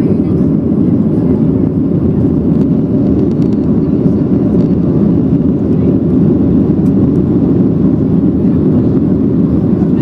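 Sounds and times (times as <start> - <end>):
airplane engines roaring in cabin: 0.0 - 10.0
rushing airflow: 0.0 - 10.0.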